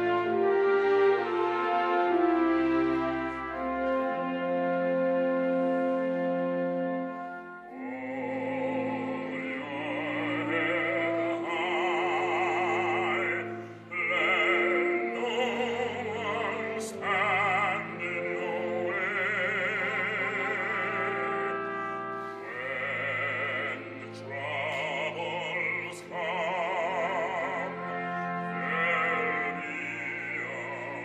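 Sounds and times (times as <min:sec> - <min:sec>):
operatic singing: 0:00.0 - 0:31.0
orchestral accompaniment: 0:00.0 - 0:31.0.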